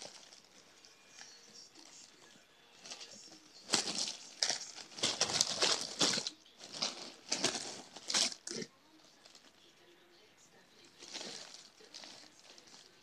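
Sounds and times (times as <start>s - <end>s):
plastic bag crinkling: 0.0s - 9.7s, 10.9s - 13.0s.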